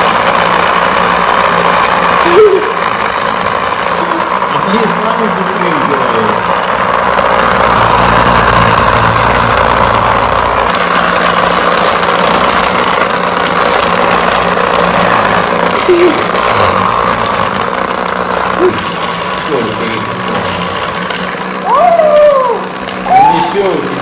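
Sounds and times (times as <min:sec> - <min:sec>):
small toy motor running: 0:00.0 - 0:24.0.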